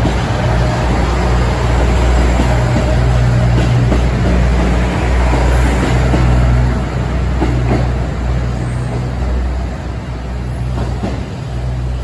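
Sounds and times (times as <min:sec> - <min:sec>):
diesel train engine drone: 0:00.0 - 0:12.0.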